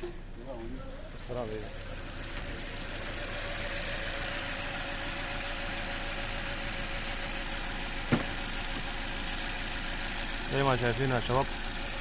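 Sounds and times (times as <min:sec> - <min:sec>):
car engine idling with a misfire: 0:00.0 - 0:12.0.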